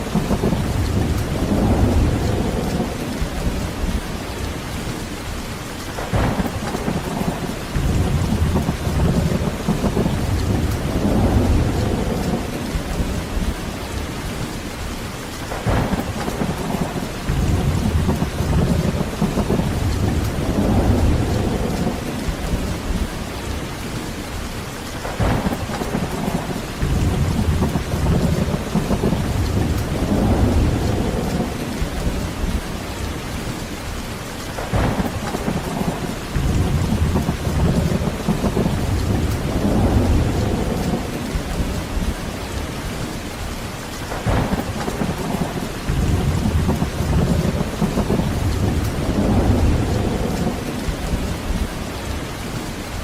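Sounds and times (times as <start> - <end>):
heavy rain falling: 0.0 - 53.0
low rolling thunder: 0.0 - 53.0.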